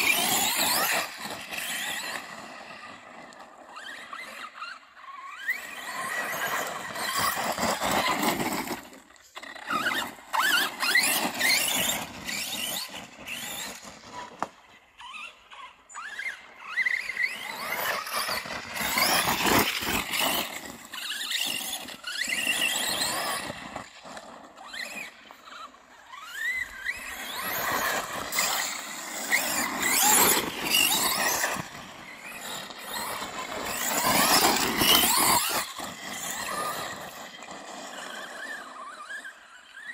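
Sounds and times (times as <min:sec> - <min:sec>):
rc truck motor whining: 0:00.0 - 0:39.9
tyres on dirt and gravel: 0:00.0 - 0:39.9.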